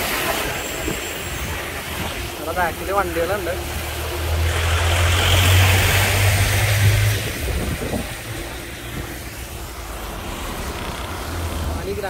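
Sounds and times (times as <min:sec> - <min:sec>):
road and wind noise: 0:00.0 - 0:12.0
truck engine drone: 0:00.0 - 0:12.0
tyre hiss on wet road: 0:00.0 - 0:12.0.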